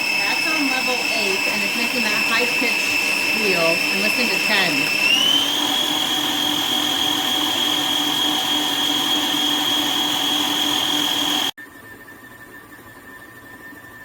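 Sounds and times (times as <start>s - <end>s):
stand mixer motor hum: 0.0s - 11.6s.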